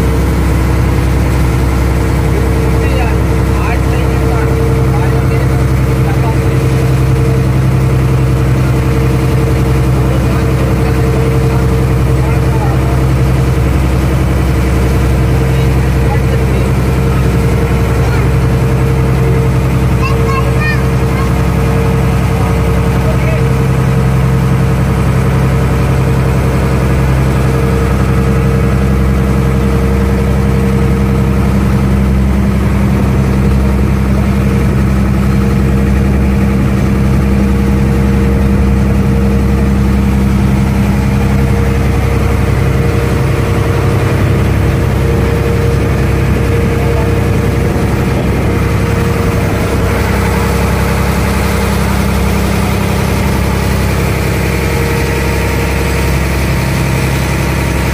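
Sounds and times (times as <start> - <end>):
ferry engine humming: 0.0 - 57.9.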